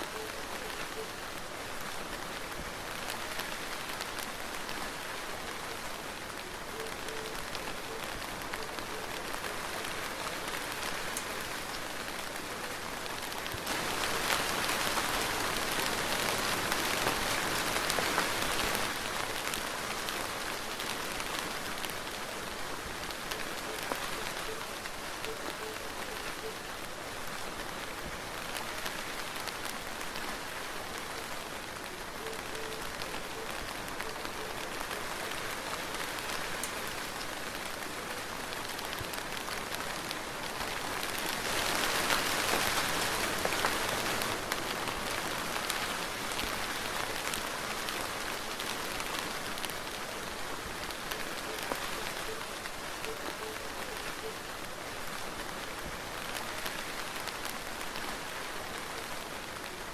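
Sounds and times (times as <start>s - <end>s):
soft rain falling: 0.0s - 59.9s.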